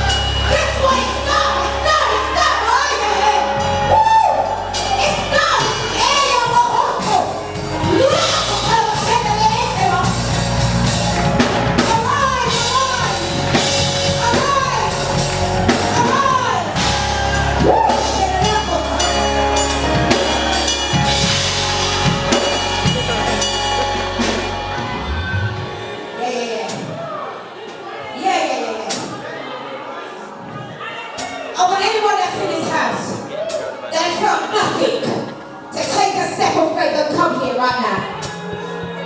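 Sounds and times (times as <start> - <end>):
gospel band playing: 0.0 - 39.0.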